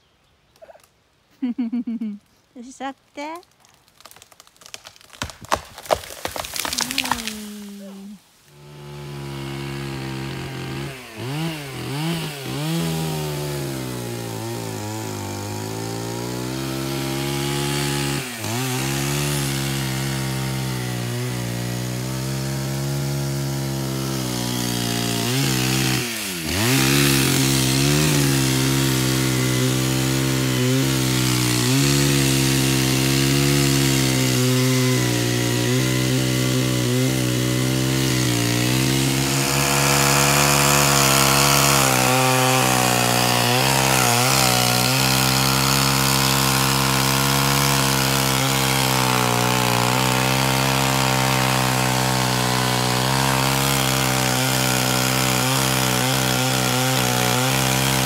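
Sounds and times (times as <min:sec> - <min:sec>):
chainsaw cutting wood: 0:01.5 - 0:58.0.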